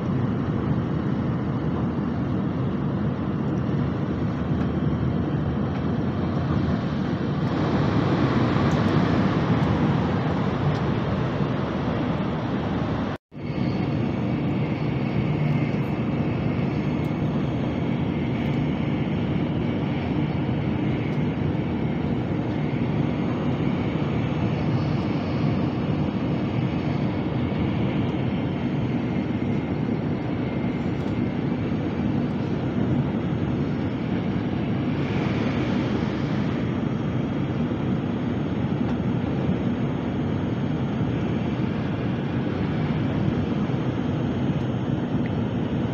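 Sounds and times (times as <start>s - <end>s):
high-speed train rumble inside cabin: 0.0s - 45.9s.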